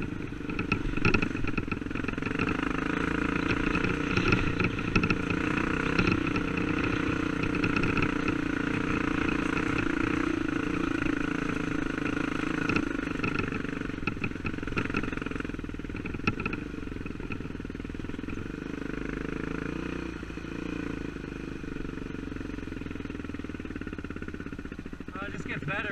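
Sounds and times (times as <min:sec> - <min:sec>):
dirt bike engine running: 0:00.0 - 0:25.9.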